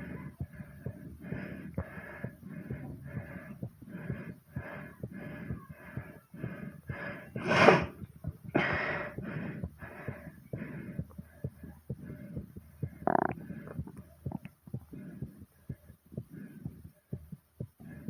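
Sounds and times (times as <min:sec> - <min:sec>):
heartbeat thumps: 0:00.0 - 0:18.0
person panting hard: 0:00.0 - 0:18.0.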